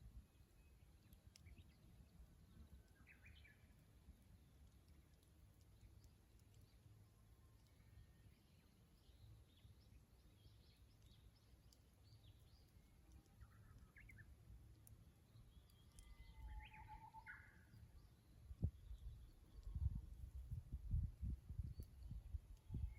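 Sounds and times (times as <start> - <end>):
faint bird chirps: 0.3 - 3.8, 7.5 - 22.9
warbler song: 0.3 - 3.8, 7.6 - 22.9.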